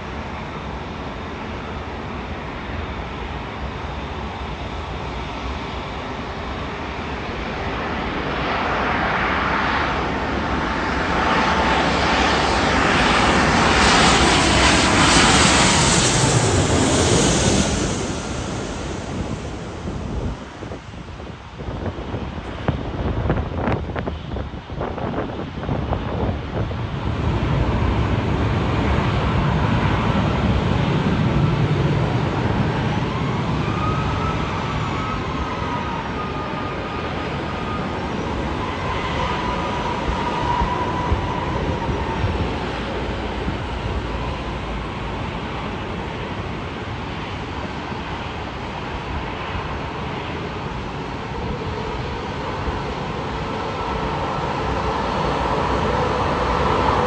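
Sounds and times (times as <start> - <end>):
jet engines passing: 0.0 - 57.0.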